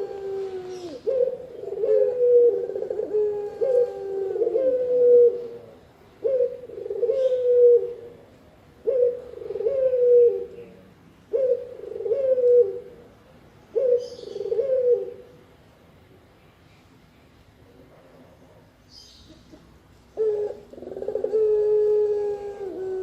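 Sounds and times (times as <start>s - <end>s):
dove cooing: 0.0s - 13.1s, 13.7s - 15.4s, 19.3s - 23.0s.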